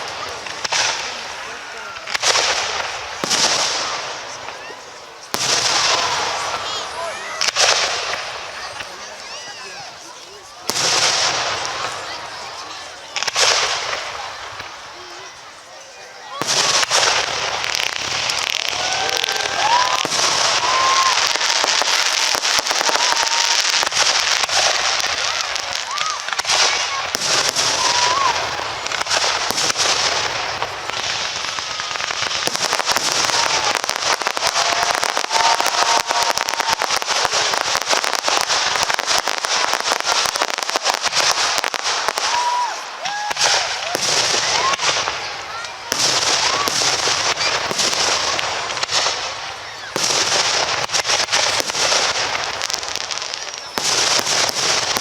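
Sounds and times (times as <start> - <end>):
firework whistles: 0.0 - 55.0
fireworks crackling and popping: 0.0 - 55.0.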